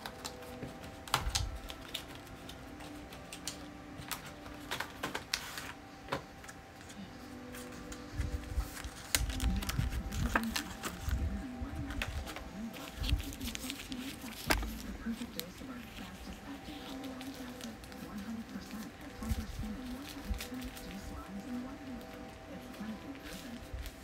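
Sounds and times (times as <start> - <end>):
plastic packaging crinkling: 0.0 - 5.8, 7.5 - 24.0.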